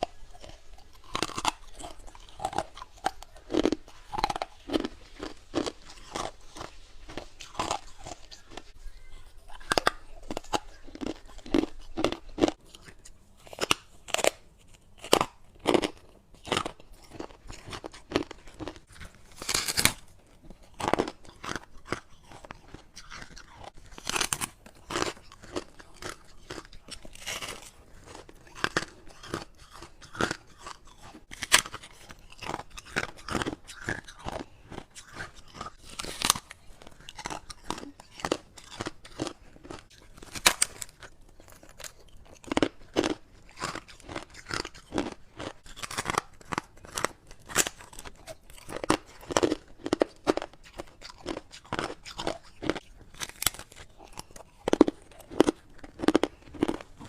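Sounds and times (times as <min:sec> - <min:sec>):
ice being bitten and chewed: 0:00.0 - 0:57.0.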